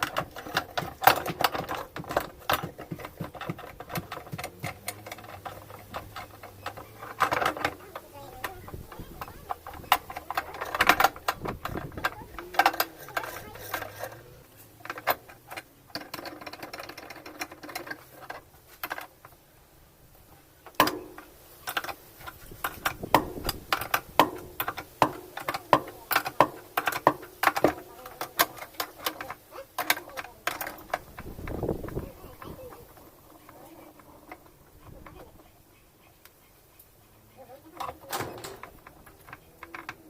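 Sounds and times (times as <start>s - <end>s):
hand tools knocking on metal and plastic: 0.0s - 19.2s, 20.7s - 35.5s, 37.6s - 40.0s.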